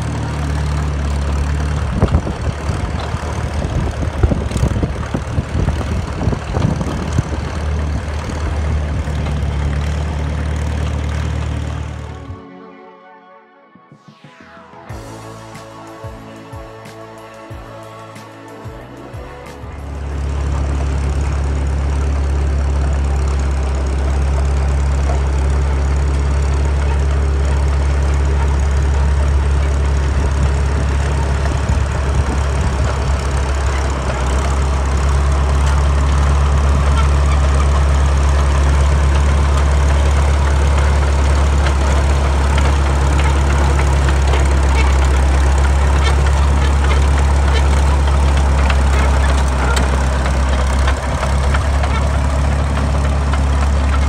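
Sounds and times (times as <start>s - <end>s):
crawler tractor diesel engine running: 0.0s - 12.5s, 14.8s - 54.0s.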